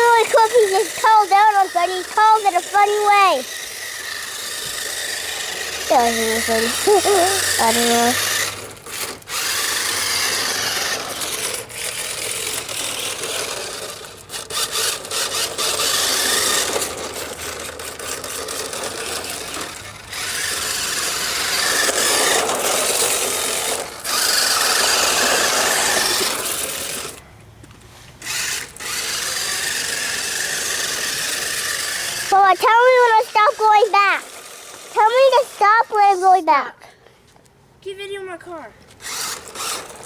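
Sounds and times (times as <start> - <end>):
small electric motor whirring: 0.0 - 27.2, 28.0 - 36.7, 38.9 - 40.0
tires scrubbing: 0.0 - 36.3.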